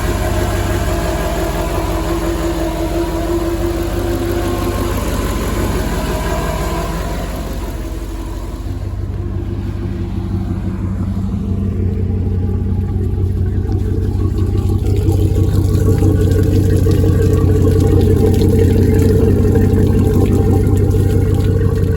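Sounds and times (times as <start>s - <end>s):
engine running steadily: 0.0s - 21.9s.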